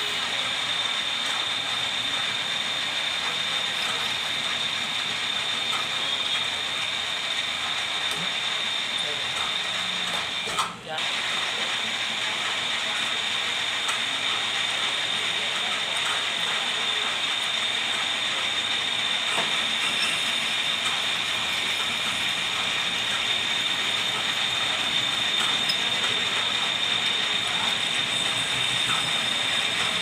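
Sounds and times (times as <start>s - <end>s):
lathe whining: 0.0s - 30.0s.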